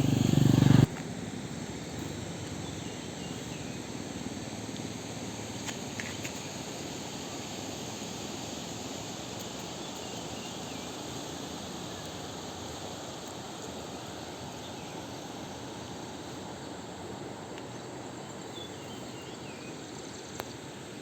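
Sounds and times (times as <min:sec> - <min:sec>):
rushing outdoor ambience: 0:00.0 - 0:21.0.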